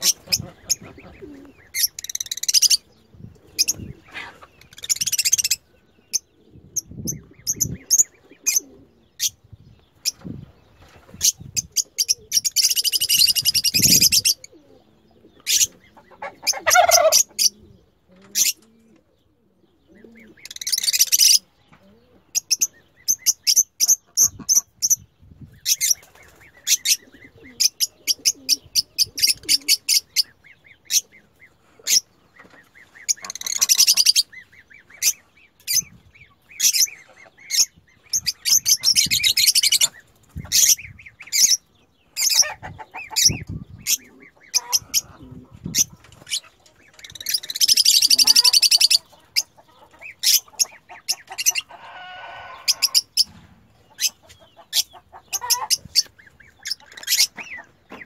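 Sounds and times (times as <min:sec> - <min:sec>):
lovebirds chattering rapidly: 0:00.0 - 0:58.0
lovebirds chirping: 0:00.0 - 0:58.0.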